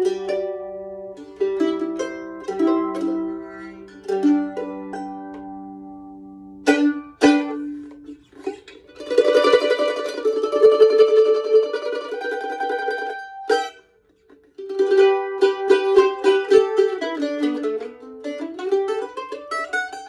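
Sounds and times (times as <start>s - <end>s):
mandolin strummed chords: 0.0s - 20.0s
mandolin tremolo picking: 0.0s - 20.0s.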